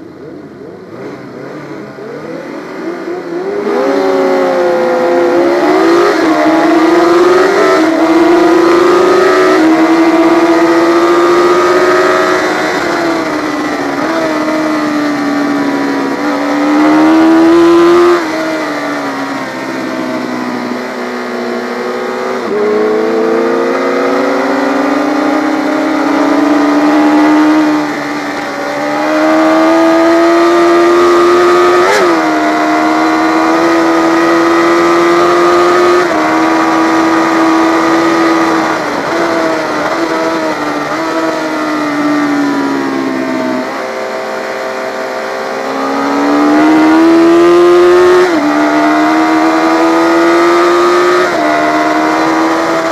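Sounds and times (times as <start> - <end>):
motorcycle engine shifting gears: 0.0 - 52.9.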